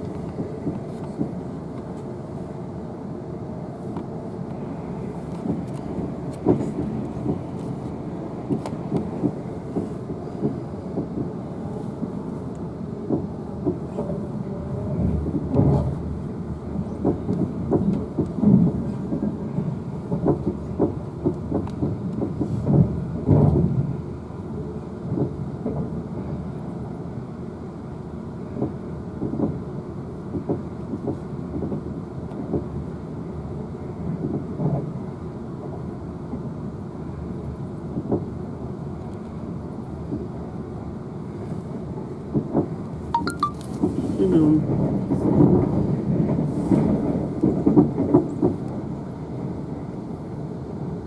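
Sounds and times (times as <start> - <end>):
train interior rumble: 0.0 - 51.0.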